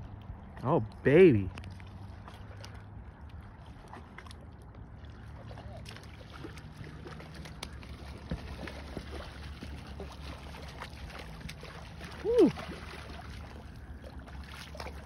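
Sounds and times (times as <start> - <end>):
fish splashing in water: 1.6 - 15.0.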